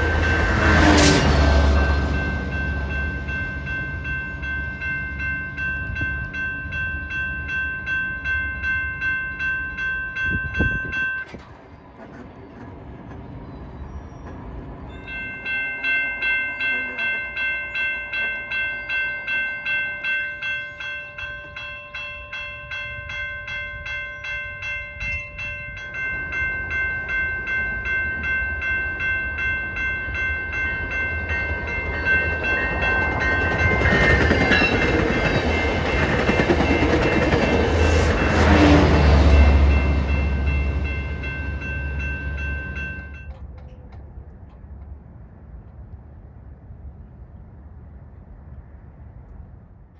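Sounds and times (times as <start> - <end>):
railroad crossing bells ringing: 0.0 - 45.9
train rumbling past: 0.0 - 49.9.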